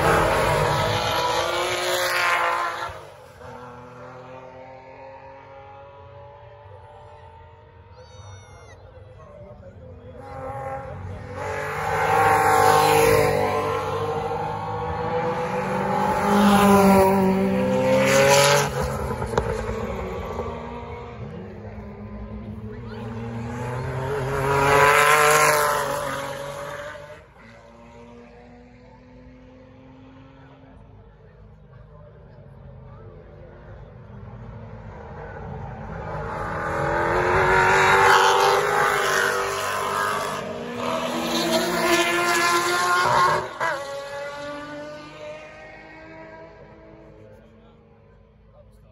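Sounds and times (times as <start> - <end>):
racing car engines accelerating past: 0.0 - 7.9, 10.0 - 30.9, 31.5 - 48.0.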